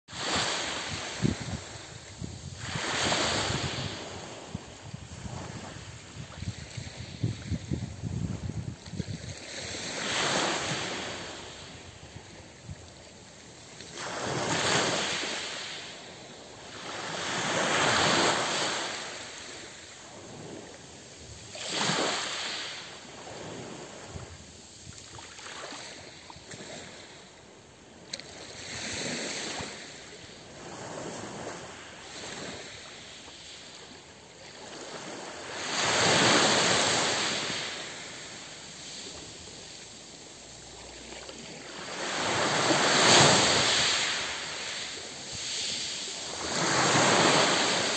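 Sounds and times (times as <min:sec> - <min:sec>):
waves washing up pebble beach: 0:00.1 - 0:12.1, 0:13.9 - 0:26.9, 0:34.5 - 0:47.9.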